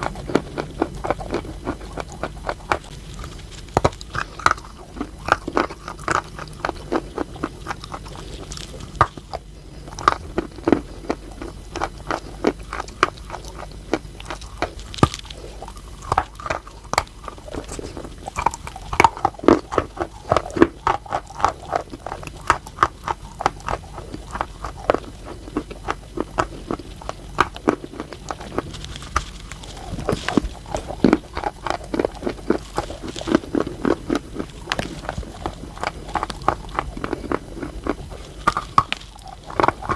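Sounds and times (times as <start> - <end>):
chalk crunching when chewed: 0.0 - 39.9.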